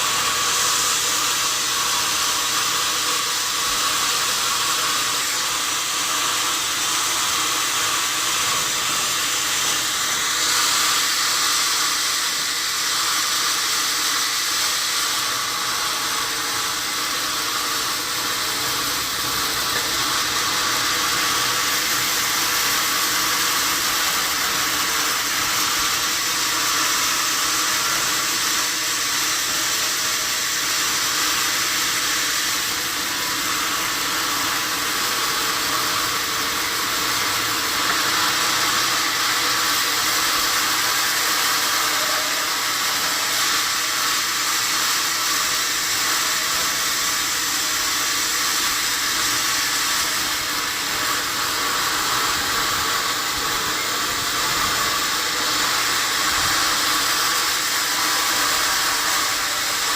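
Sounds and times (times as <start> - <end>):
sawmill saw hissing: 0.0 - 59.9.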